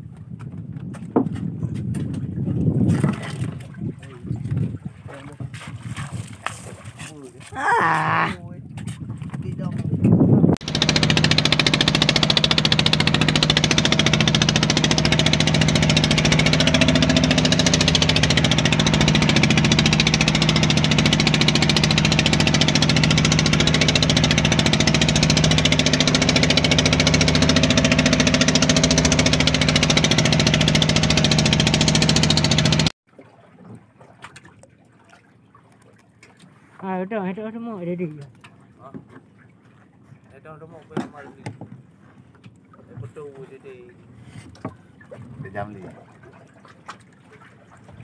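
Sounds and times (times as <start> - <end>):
boat engine running: 0.0 - 48.0.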